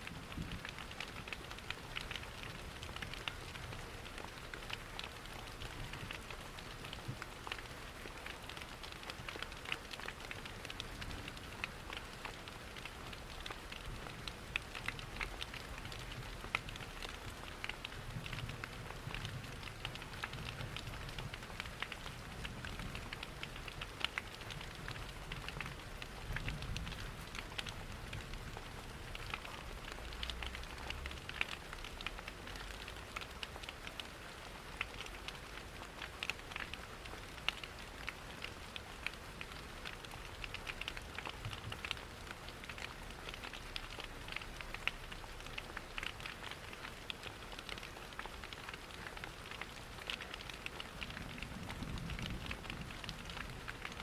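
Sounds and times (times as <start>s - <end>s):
crackling wood fire: 0.0s - 54.0s
steady rain: 0.0s - 54.0s.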